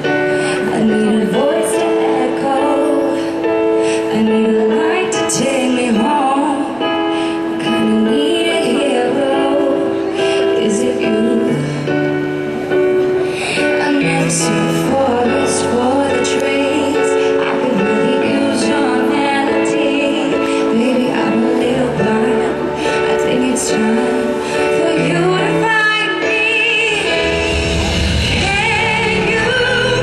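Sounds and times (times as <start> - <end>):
piano chords: 0.0 - 30.0
woman singing: 0.0 - 30.0.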